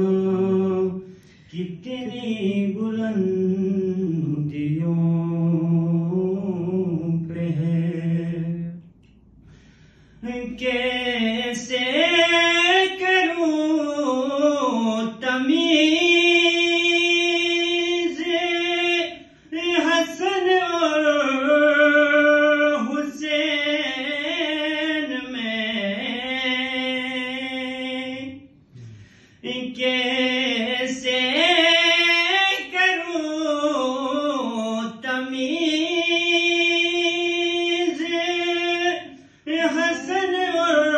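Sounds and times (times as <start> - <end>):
man singing unaccompanied: 0.0 - 8.8, 10.2 - 28.5, 29.4 - 40.9.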